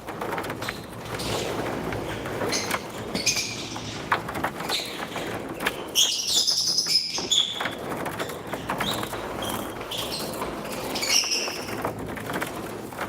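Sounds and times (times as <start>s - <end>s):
lovebirds chirping: 1.1s - 11.8s.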